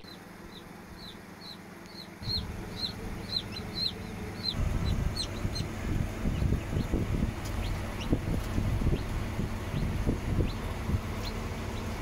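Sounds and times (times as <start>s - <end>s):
chicks peeping: 0.0s - 12.0s
low rumbling noise: 0.1s - 12.0s.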